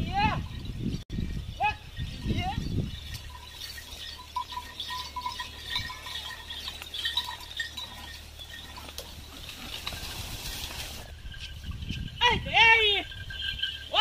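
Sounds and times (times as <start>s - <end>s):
small bells jingling: 0.0s - 14.0s.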